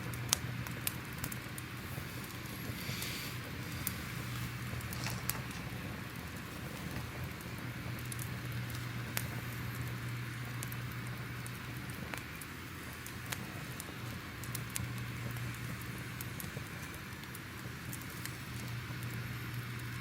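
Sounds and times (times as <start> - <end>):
fire crackling and popping: 0.0 - 20.0
steady low rumble: 0.0 - 20.0.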